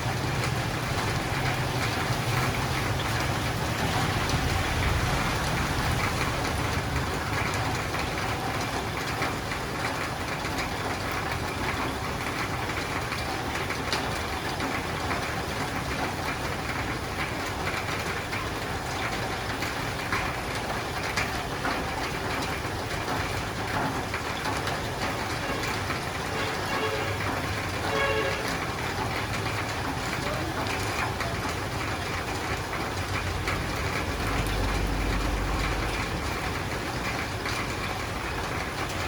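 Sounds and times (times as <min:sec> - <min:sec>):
rain falling on a roof: 0:00.0 - 0:39.0.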